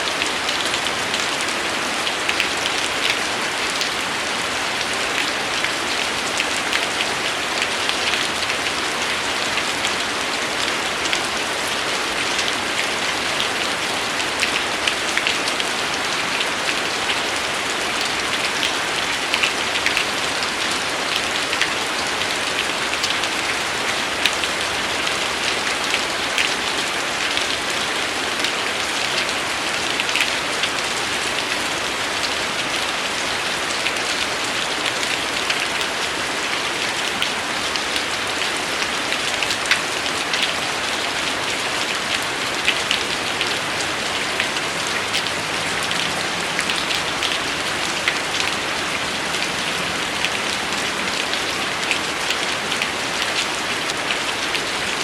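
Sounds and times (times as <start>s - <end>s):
raindrop ticks: 0.0s - 10.0s, 10.6s - 15.8s, 16.4s - 51.2s
steady rain hissing: 0.0s - 55.0s.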